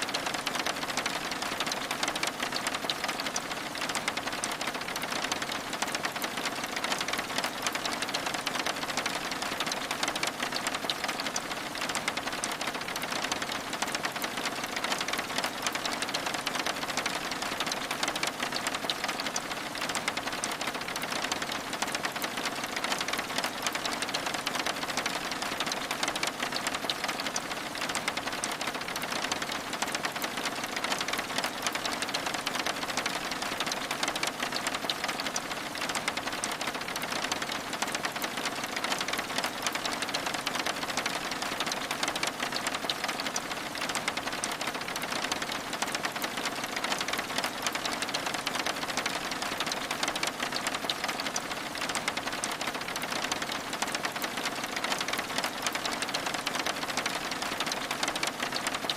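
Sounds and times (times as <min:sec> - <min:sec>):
rain pattering on window glass: 0:00.0 - 0:58.9.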